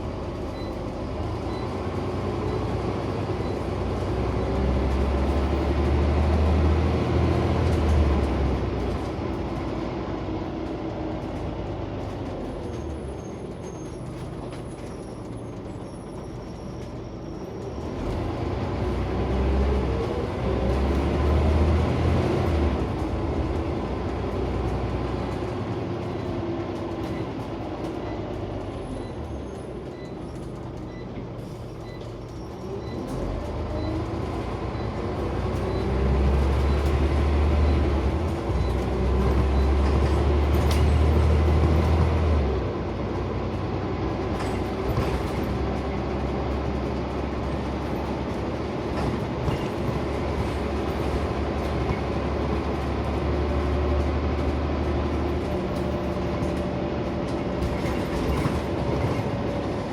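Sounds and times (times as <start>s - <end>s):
bus engine: 0.0s - 59.9s
road noise: 0.0s - 59.9s.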